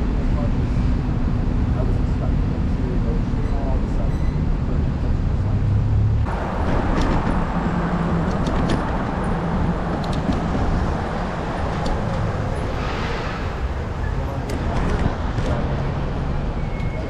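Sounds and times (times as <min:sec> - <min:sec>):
road traffic: 0:00.0 - 0:17.0
vehicles passing: 0:00.0 - 0:17.0.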